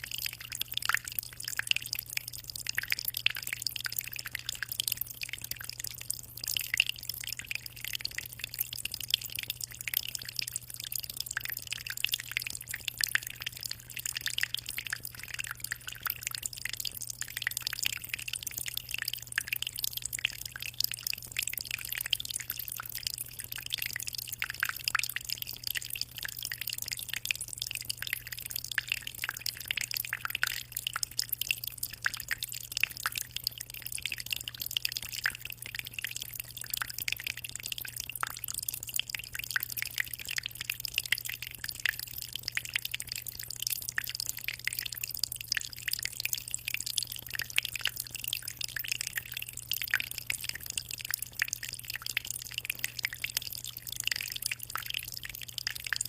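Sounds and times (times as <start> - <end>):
aquarium water trickling: 0.0 - 56.0.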